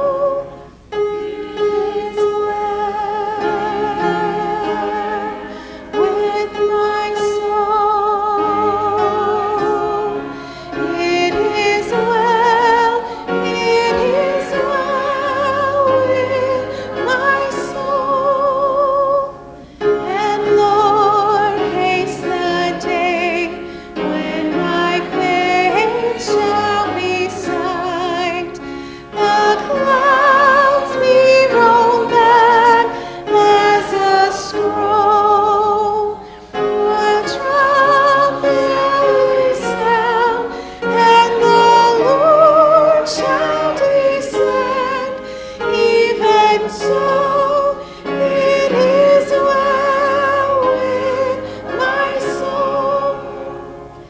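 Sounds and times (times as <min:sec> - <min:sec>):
person singing with vibrato: 0:00.0 - 0:54.0.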